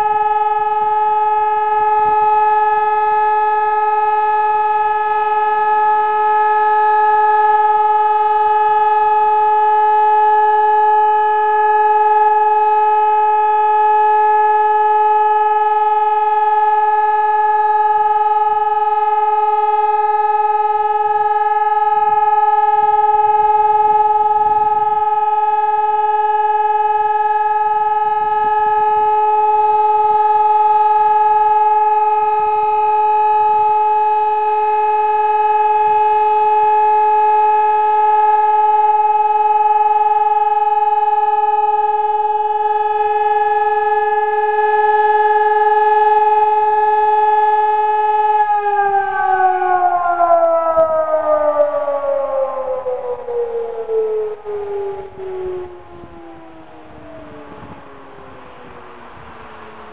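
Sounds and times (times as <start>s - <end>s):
electronic siren steady tone: 0.0s - 59.9s.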